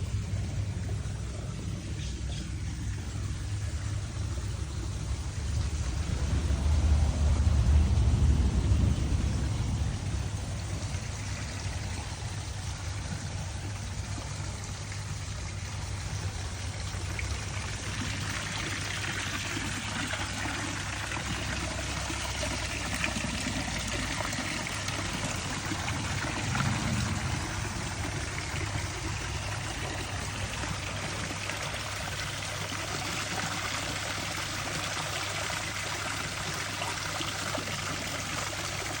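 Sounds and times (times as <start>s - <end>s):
steady low hum: 0.0s - 33.1s
water trickling down waterfall: 0.0s - 39.0s.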